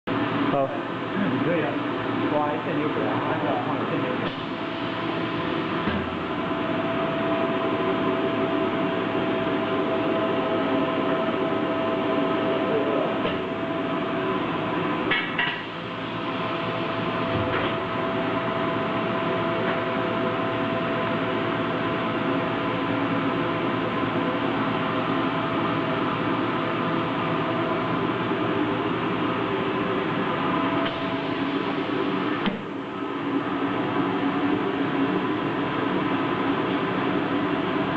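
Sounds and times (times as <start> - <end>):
steady machine hum: 0.0 - 37.9.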